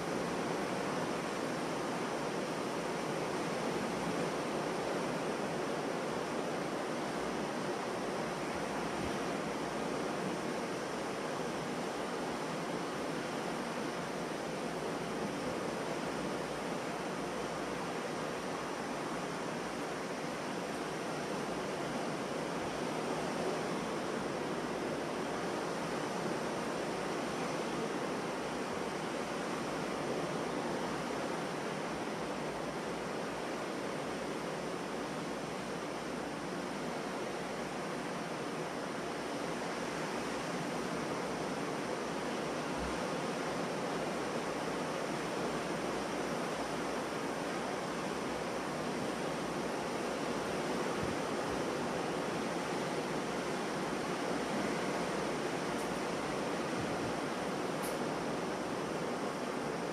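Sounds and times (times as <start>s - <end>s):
ocean surf washing onto beach: 0.0s - 59.9s.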